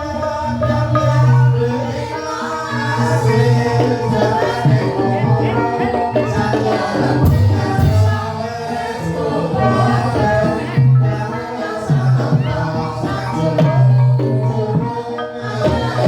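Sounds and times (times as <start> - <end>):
drums: 2.7 - 16.0.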